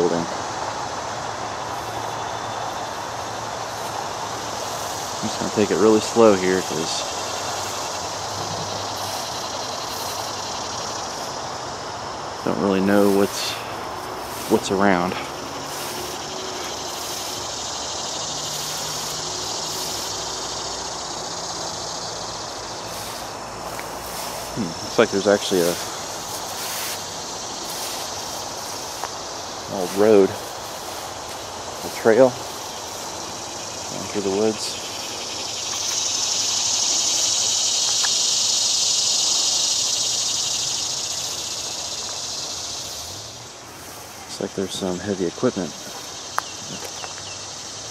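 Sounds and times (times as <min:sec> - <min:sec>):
insects buzzing: 0:00.0 - 0:47.9.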